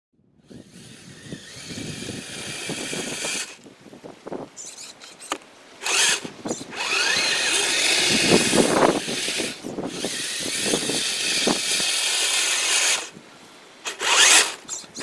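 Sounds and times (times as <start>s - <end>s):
electric motors whining: 0.4s - 3.7s, 4.6s - 13.2s, 13.8s - 15.0s.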